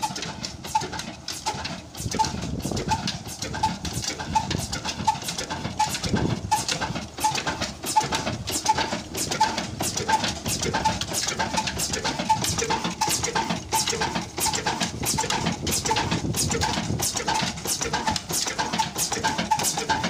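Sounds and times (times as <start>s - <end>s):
stationary diesel engine knocking: 0.0s - 20.0s.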